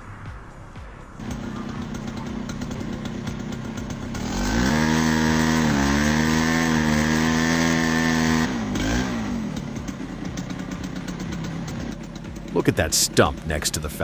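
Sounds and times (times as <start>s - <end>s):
chainsaw engine revving: 1.2s - 14.0s.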